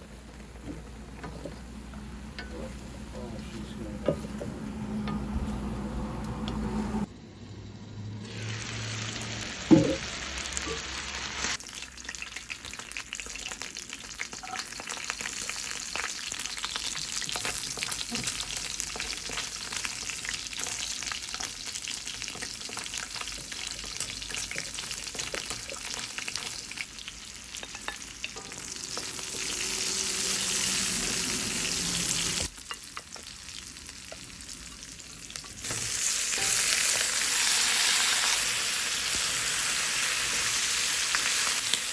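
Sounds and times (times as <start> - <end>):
food sizzling in oil: 7.6 - 41.9.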